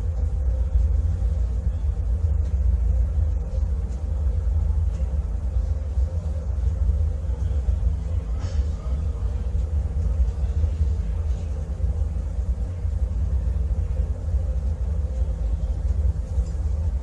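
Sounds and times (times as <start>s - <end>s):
faint steady hum: 0.0s - 17.0s
ventilation duct rumbling: 0.0s - 17.0s.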